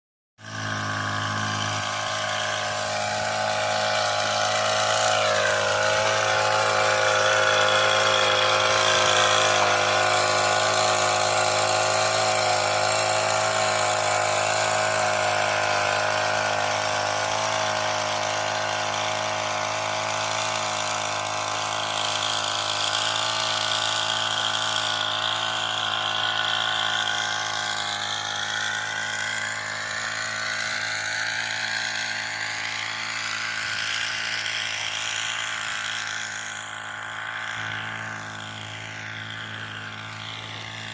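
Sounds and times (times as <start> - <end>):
sprayer motor and pump humming: 0.4 - 40.9.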